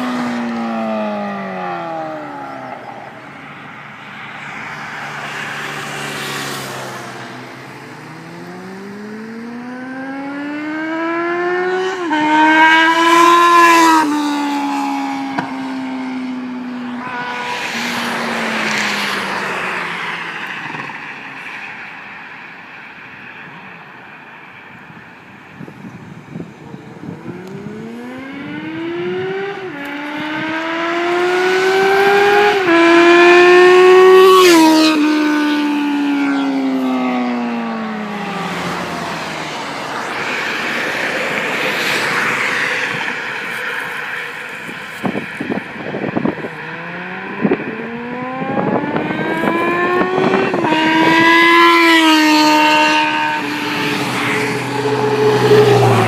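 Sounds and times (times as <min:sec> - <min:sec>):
motorcycle accelerating through gears: 0:04.5 - 0:21.4, 0:25.8 - 0:56.0.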